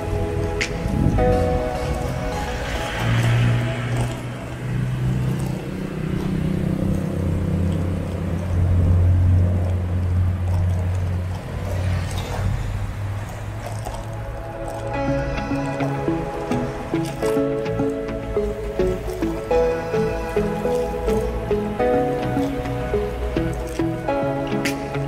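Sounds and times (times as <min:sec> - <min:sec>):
street traffic passing: 0:00.0 - 0:25.0
vehicle engine low drone: 0:00.0 - 0:25.0.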